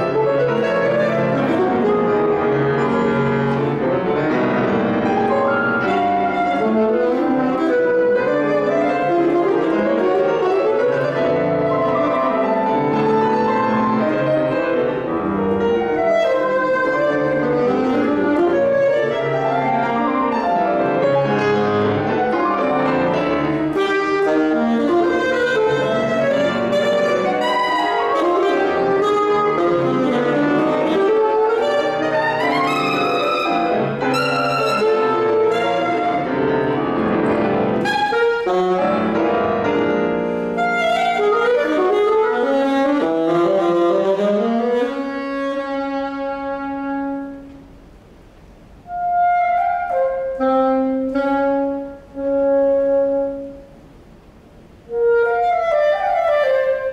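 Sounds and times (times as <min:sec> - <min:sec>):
saxophone: 0:00.0 - 0:47.8, 0:48.8 - 0:54.0, 0:54.7 - 0:56.9
piano: 0:00.0 - 0:56.9.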